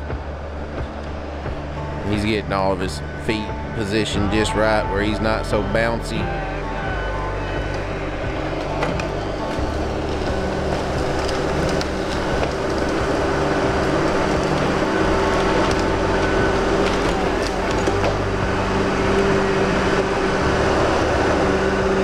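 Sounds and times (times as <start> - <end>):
log loader diesel engine running: 0.0 - 22.0
skidder engine: 0.0 - 22.0.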